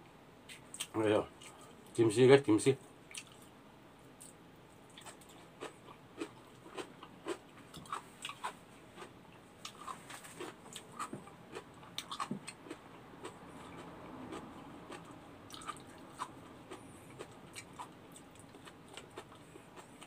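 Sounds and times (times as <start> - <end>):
person chewing with wet clicks: 0.5 - 1.6, 3.1 - 3.5, 4.2 - 20.0.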